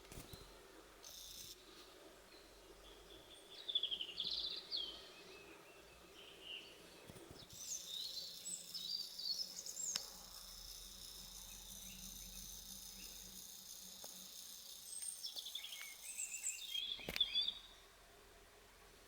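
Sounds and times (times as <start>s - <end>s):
small birds chirping: 0.0s - 17.9s
faint steady hiss: 0.0s - 19.0s.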